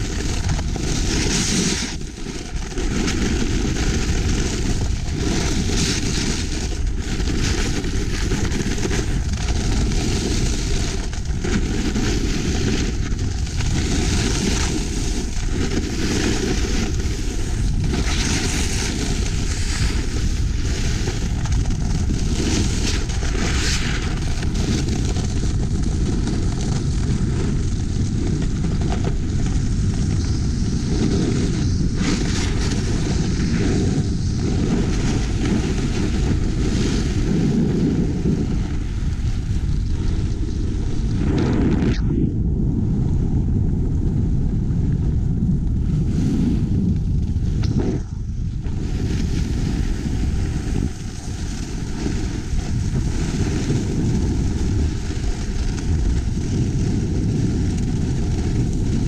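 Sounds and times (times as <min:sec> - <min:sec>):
snow scraping under skis: 0:00.0 - 0:42.0, 0:45.8 - 0:59.0
wind buffeting microphone: 0:00.0 - 0:59.0.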